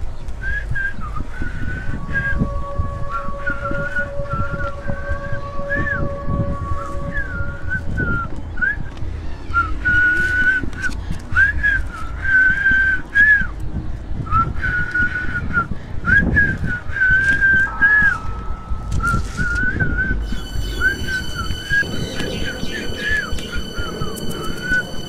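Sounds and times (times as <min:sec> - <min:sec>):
person whistling a slow tune: 0:00.4 - 0:25.0.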